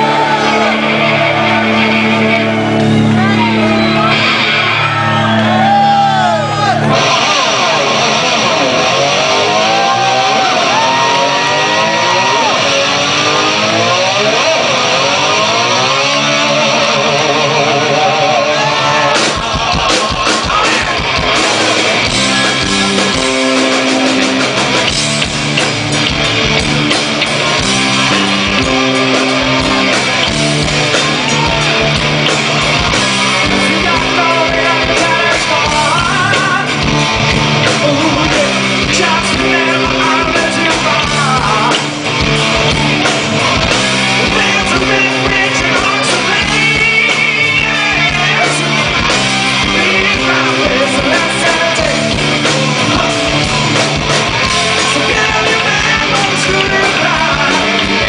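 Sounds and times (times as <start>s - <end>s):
bass guitar: 0.0s - 58.0s
drums: 0.0s - 58.0s
electric guitar bending notes: 0.0s - 58.0s
rock band playing: 0.0s - 58.0s.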